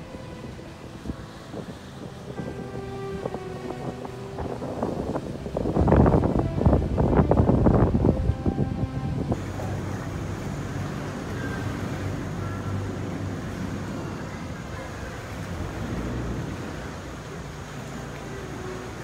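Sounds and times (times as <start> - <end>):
boat engine humming: 0.0 - 19.0
faint crowd voices: 0.0 - 19.0.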